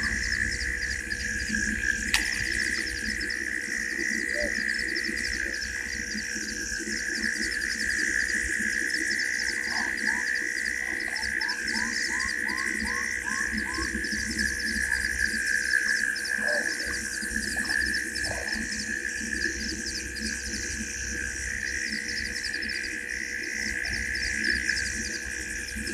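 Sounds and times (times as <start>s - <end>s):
insects droning and chirping: 0.0s - 25.9s.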